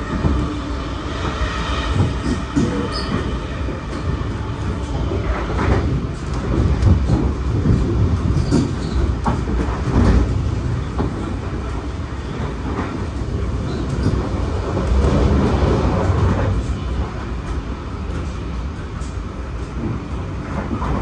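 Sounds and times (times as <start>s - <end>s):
train carriage rumbling on track: 0.0s - 21.0s.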